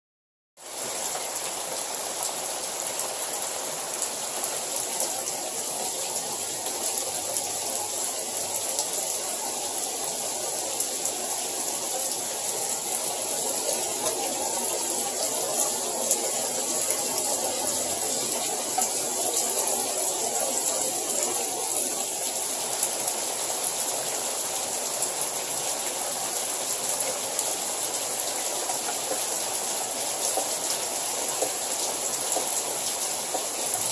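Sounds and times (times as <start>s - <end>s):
hail and rain pelting: 0.6s - 33.9s.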